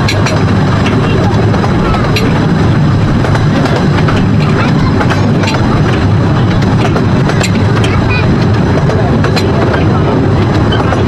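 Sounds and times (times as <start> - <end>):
sharp clicks and clatter: 0.0 - 11.0
train wheels rumbling on rails: 0.0 - 11.0.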